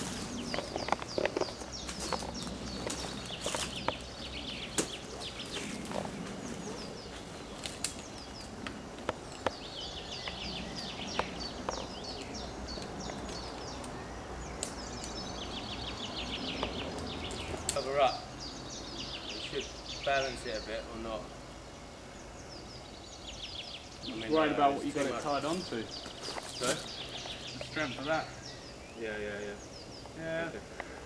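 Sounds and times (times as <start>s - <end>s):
birds chirping and singing: 0.0s - 31.0s
outdoor background noise: 0.0s - 31.0s.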